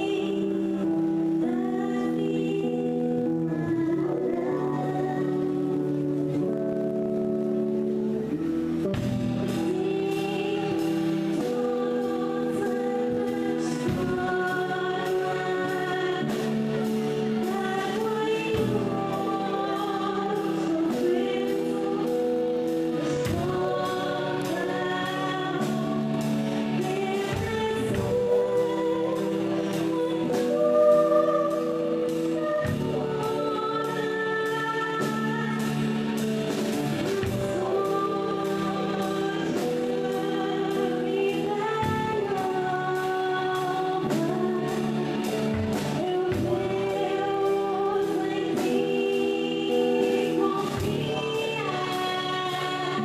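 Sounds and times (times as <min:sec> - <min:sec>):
live band playing: 0:00.0 - 0:53.0
woman singing: 0:00.0 - 0:53.0.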